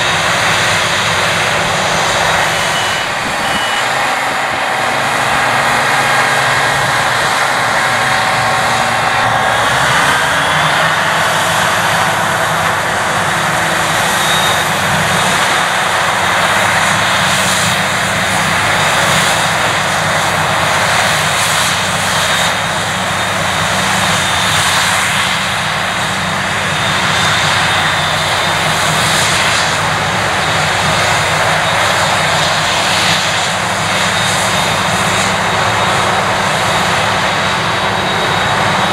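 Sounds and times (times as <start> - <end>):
chopper and blower rushing: 0.0 - 38.9
harvester engine drone: 0.0 - 38.9
tractor engine: 0.0 - 38.9.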